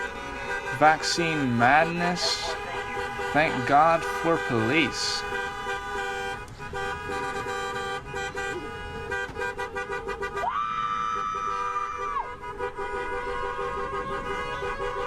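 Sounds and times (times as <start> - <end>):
loud horn with sliding pitch: 0.0 - 10.5, 11.5 - 15.0
vehicle horns blasting: 0.0 - 10.5, 11.2 - 15.0.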